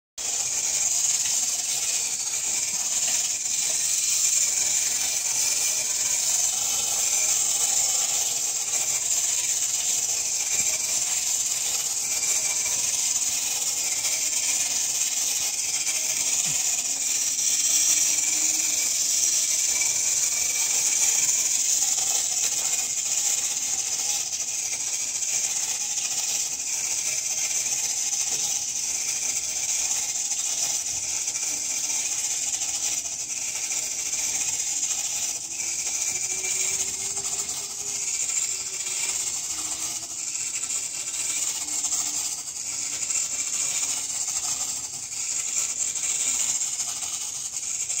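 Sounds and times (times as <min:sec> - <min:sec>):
clockwork toy whirring: 0:00.2 - 0:48.0.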